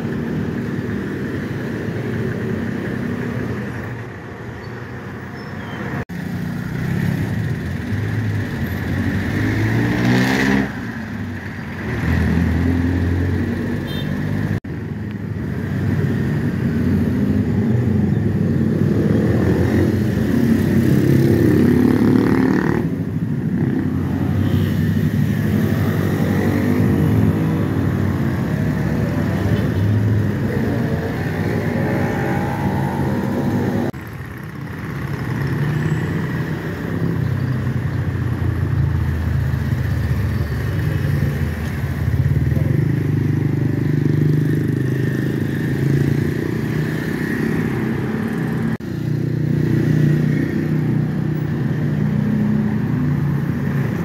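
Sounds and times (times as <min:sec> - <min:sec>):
car engines passing: 0:00.0 - 0:54.0
motorcycle engines passing: 0:00.0 - 0:54.0.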